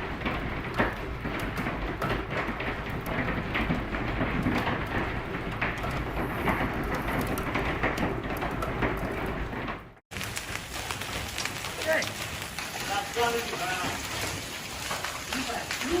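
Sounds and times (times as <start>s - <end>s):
hail and rain pelting: 0.0s - 16.0s.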